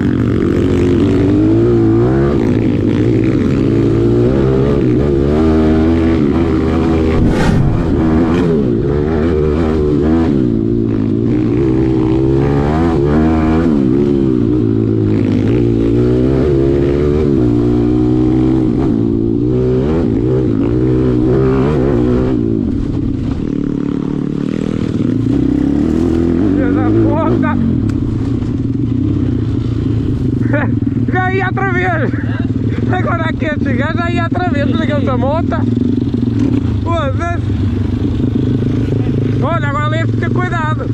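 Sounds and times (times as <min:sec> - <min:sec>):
pit bike engine revving: 0:00.0 - 0:22.8, 0:23.4 - 0:40.9.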